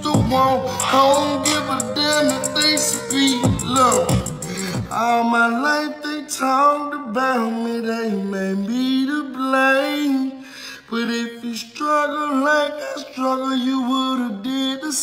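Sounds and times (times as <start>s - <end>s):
man singing slow notes: 0.0s - 14.9s.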